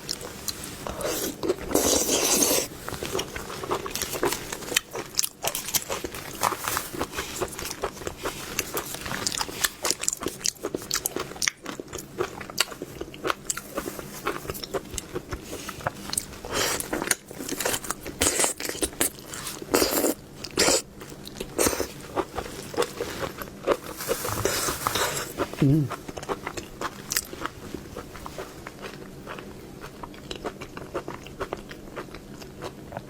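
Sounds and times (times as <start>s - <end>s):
chewing raw lobster: 0.0s - 33.0s.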